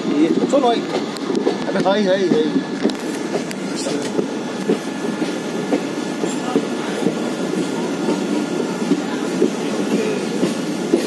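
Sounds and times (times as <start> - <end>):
rail clicks and clacks: 0.0 - 11.0
train wheels rumbling: 0.0 - 11.0.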